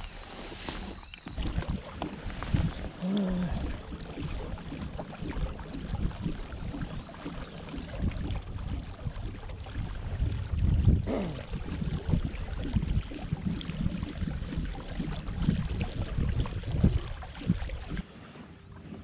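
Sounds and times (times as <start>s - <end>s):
wind buffeting microphone: 0.0s - 18.0s
water lapping against kayak: 0.0s - 19.0s.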